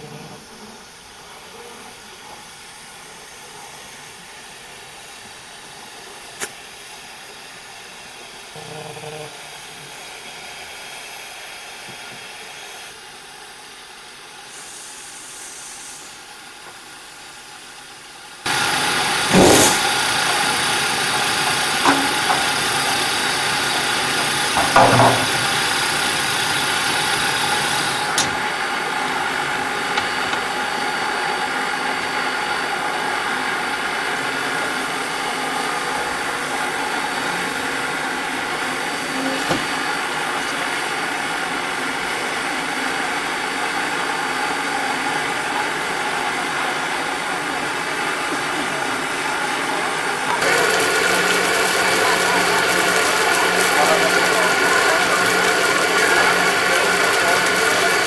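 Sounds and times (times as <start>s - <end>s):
bright loud steam hiss: 0.0s - 58.0s
steam locomotive hissing: 0.0s - 58.0s.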